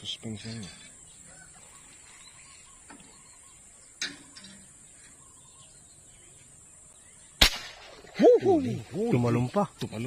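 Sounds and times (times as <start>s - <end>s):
faint bird calls: 0.4s - 9.2s.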